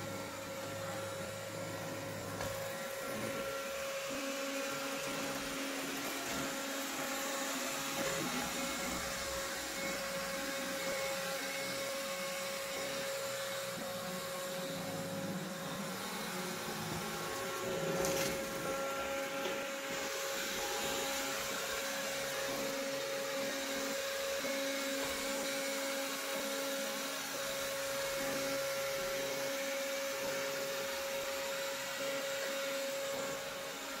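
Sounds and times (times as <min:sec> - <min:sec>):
robot vacuum whirring: 0:00.0 - 0:34.0.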